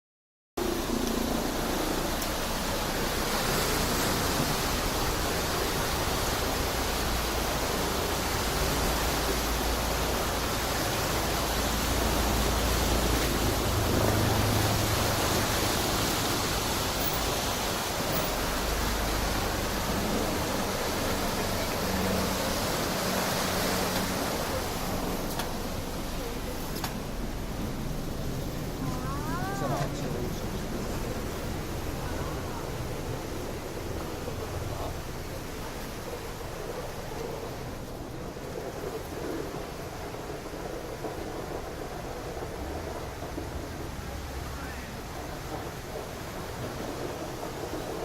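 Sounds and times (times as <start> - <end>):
floodwater rushing through sluice: 0.6 - 48.0.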